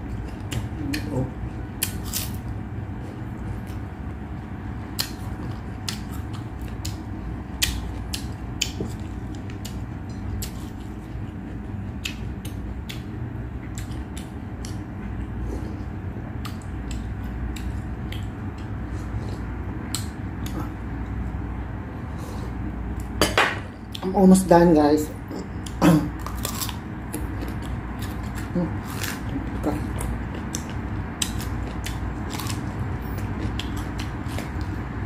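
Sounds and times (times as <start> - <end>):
chewing crunches: 0.0 - 2.6, 3.4 - 20.7, 25.3 - 35.0
steady low hum: 0.0 - 35.0.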